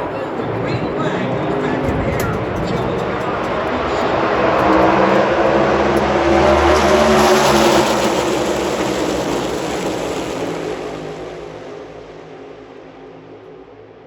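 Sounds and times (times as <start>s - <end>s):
race car engines passing: 0.0s - 12.7s.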